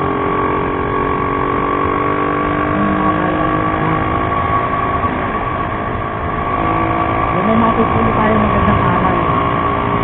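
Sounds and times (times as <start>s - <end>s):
motorcycle engine hum: 0.0s - 10.0s
road and wind noise: 0.0s - 10.0s.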